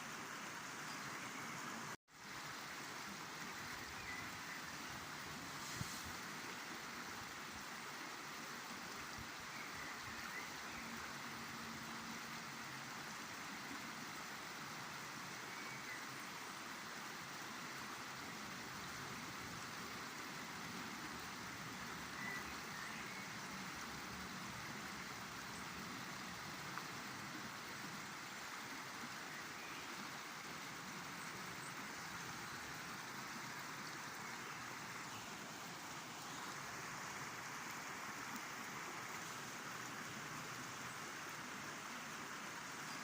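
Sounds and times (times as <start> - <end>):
river water flowing: 0.0 - 43.0.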